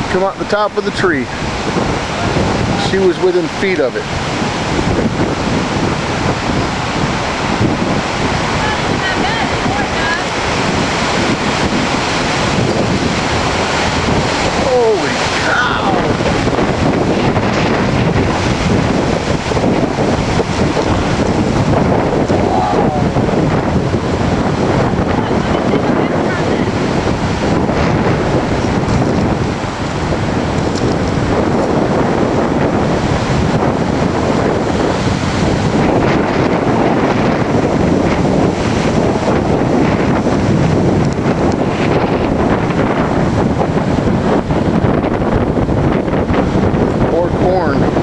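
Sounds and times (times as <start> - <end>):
wind gusting on microphone: 0.0 - 48.0.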